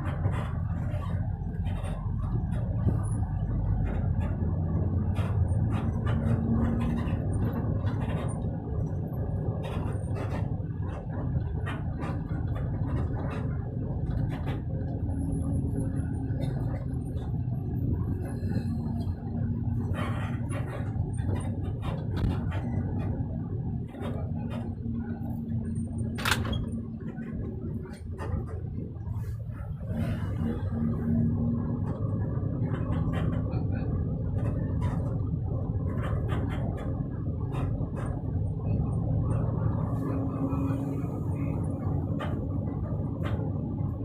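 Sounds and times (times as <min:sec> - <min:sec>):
vehicle engine and tyres rumbling: 0:00.0 - 0:44.0.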